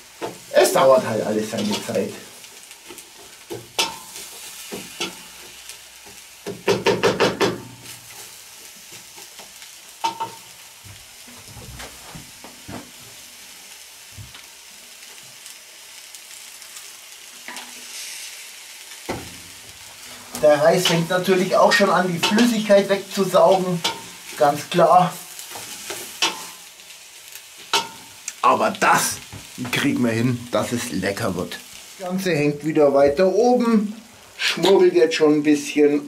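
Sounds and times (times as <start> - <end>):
faint sizzle: 0.0 - 36.0.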